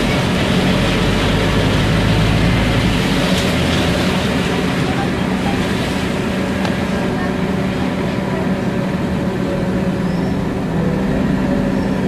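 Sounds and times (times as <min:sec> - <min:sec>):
bus engine running: 0:00.0 - 0:12.0
road noise: 0:00.0 - 0:12.0.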